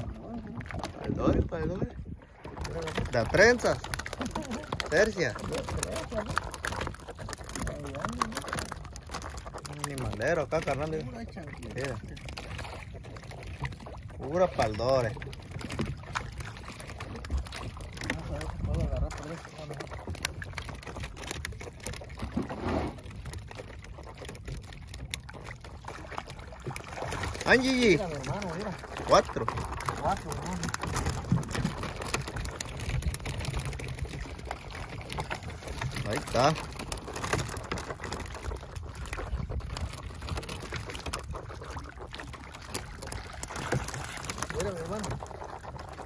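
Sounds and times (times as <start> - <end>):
water swish: 0.0 - 46.0
small fish splashing at surface: 2.4 - 46.0.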